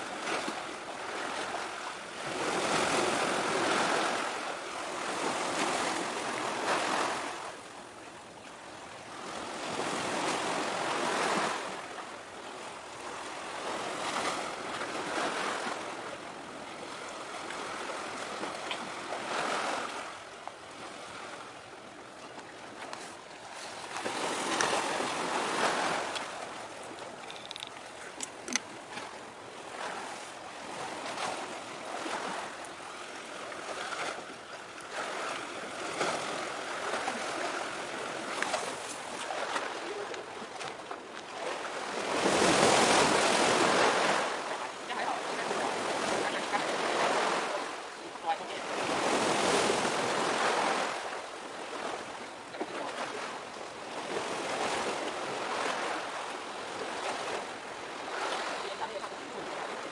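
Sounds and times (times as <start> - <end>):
sea waves washing on concrete: 0.0 - 59.9.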